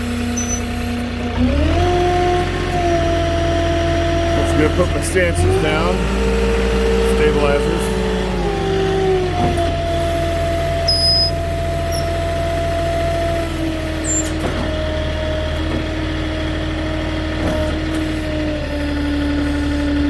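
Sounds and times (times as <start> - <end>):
forklift engine running: 0.0 - 20.0
hydraulic whine: 0.0 - 20.0.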